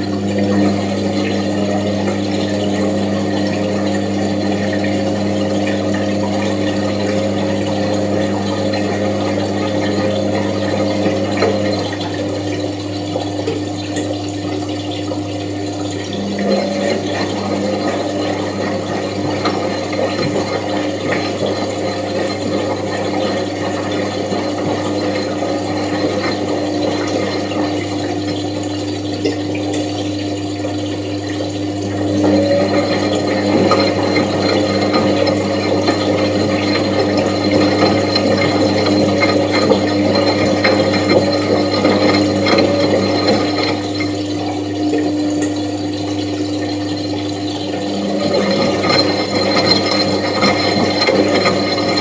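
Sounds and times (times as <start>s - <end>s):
rattle of water and parts: 0.0s - 52.0s
washing machine motor hum: 0.0s - 52.0s.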